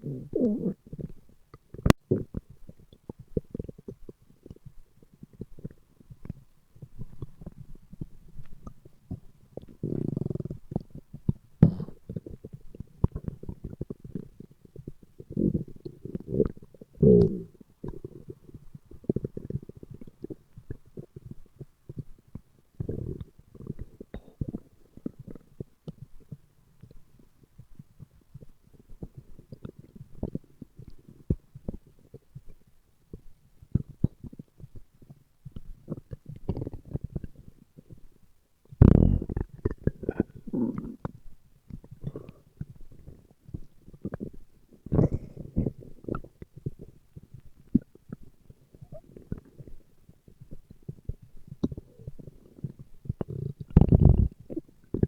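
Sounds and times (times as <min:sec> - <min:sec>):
stomach growling and gurgling: 0:00.0 - 0:55.0.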